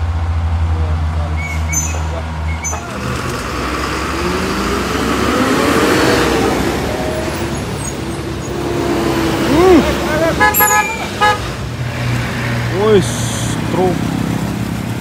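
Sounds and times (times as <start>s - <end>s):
truck diesel engine labouring: 0.0s - 15.0s.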